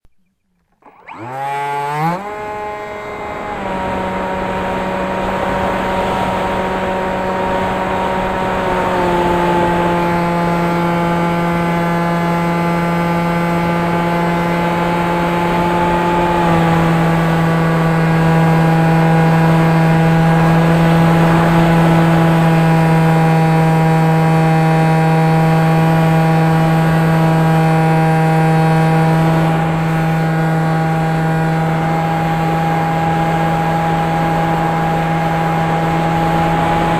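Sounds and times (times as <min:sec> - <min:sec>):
drone motors buzzing: 0:00.3 - 0:36.9.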